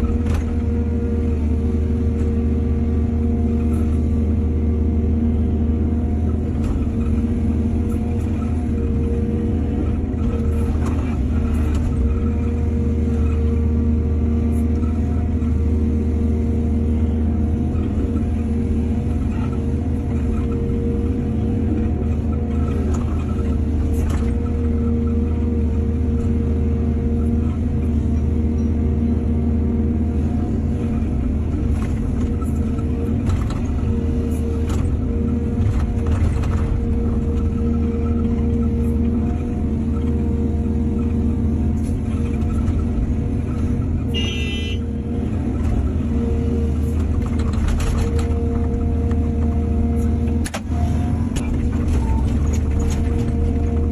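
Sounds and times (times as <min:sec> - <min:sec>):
excavator engine running: 0:00.0 - 0:53.9.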